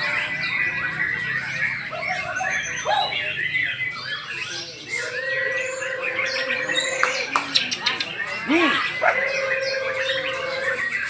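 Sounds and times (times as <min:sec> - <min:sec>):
birds singing: 0:00.0 - 0:11.0
crowd murmur: 0:00.0 - 0:11.0.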